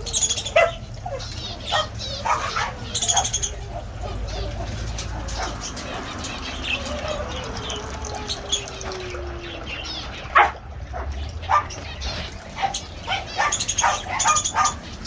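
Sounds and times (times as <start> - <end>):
dog whining: 0.0 - 11.7, 12.6 - 14.9
small birds chirping: 0.0 - 15.0
dog barking: 0.4 - 9.4, 10.2 - 11.9, 12.5 - 15.0.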